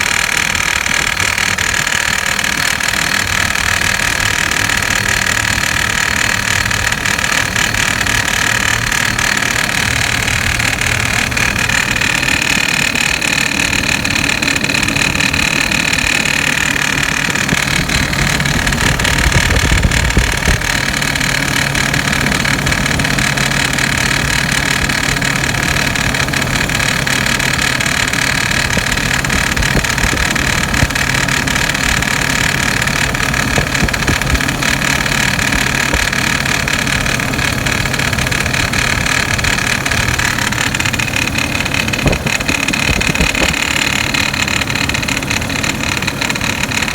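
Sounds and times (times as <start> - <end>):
car engine idling: 0.0 - 46.9
engine rattling: 0.0 - 46.9.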